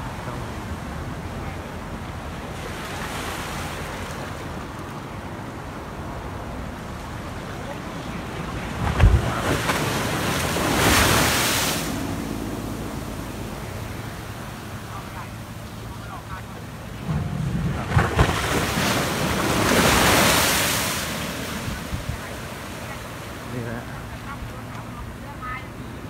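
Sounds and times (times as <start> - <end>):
rush of spray and water: 0.0 - 26.0
steady surf: 0.0 - 26.0
waves pounding seawall: 0.0 - 26.0.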